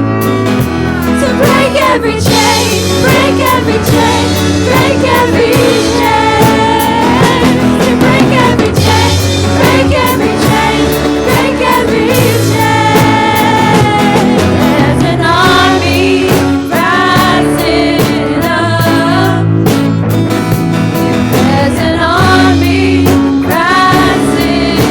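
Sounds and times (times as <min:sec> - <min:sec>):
drums: 0:00.0 - 0:24.9
worship band playing: 0:00.0 - 0:24.9.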